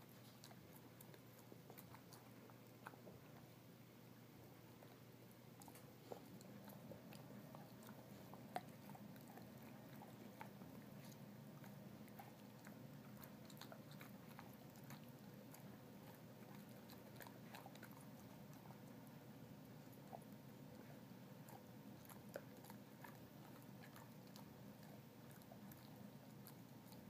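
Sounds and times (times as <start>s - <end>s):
dog gnawing a chew: 0.0s - 27.0s.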